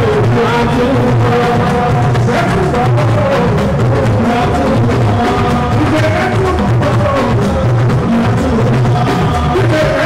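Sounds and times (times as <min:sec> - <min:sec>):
drum kit: 0:00.0 - 0:10.0
electric guitar: 0:00.0 - 0:10.0
man singing into microphone: 0:00.0 - 0:10.0.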